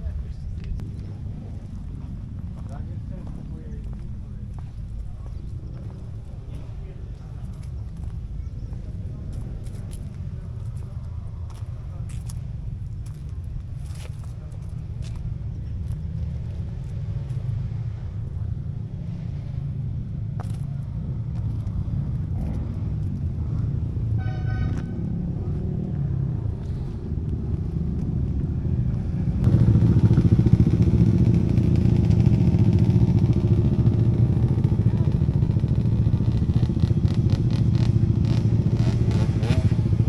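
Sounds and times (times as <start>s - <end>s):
motorcycle engines rumbling: 0.0s - 40.0s.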